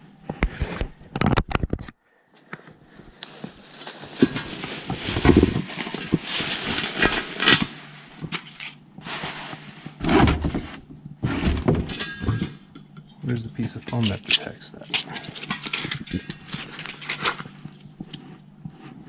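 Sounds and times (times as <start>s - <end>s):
rustling and scraping handling: 2.4s - 12.7s, 13.3s - 19.0s.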